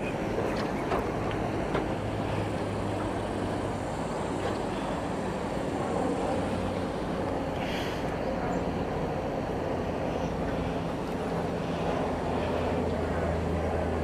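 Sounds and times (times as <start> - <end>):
low engine hum: 0.0 - 14.0
water noise: 0.0 - 14.0
wind: 0.0 - 14.0.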